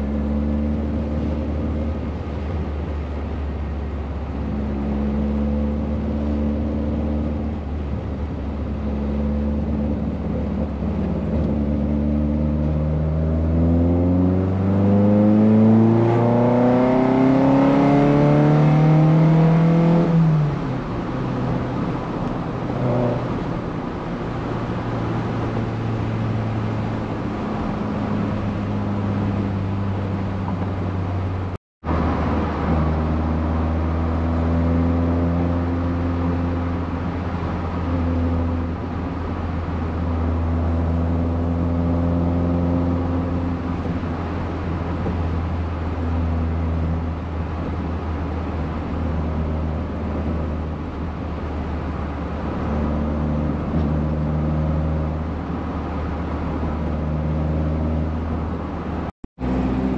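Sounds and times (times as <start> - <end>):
car engine cruising drone: 0.0 - 59.9.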